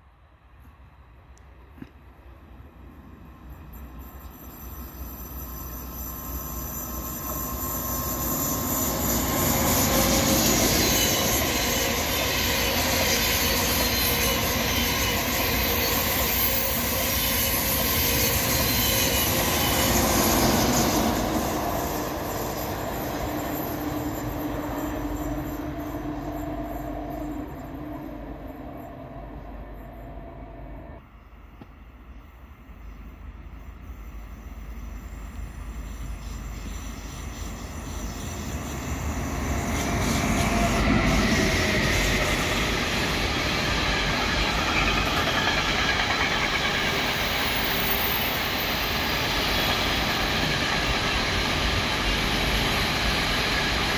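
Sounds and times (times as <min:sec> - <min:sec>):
high-speed train passing: 0:00.0 - 0:53.9.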